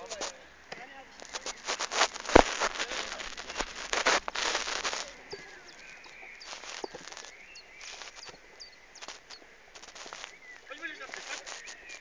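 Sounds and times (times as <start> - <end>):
bird chirping: 0.8 - 12.0.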